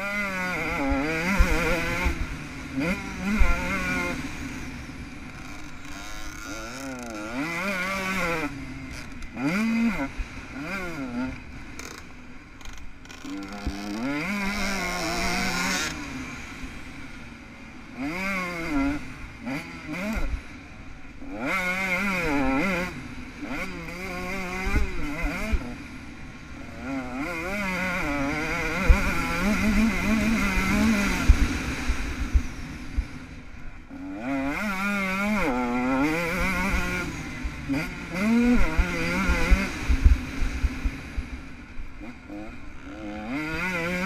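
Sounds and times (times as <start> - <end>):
two-stroke motocross engine revving: 0.0 - 44.0.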